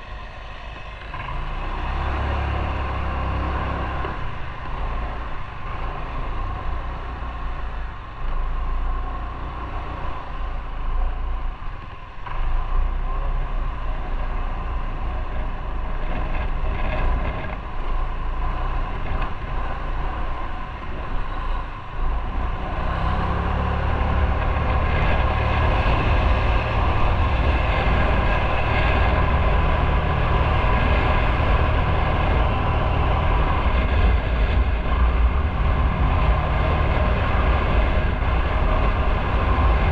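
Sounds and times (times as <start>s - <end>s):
motorcycle engine rumble: 0.0s - 39.9s
wind rushing over microphone: 0.0s - 39.9s.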